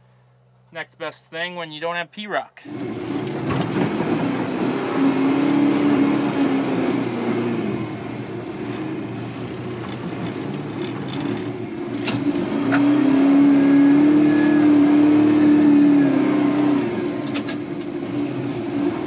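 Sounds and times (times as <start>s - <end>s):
diesel engine running under throttle: 2.6s - 19.0s.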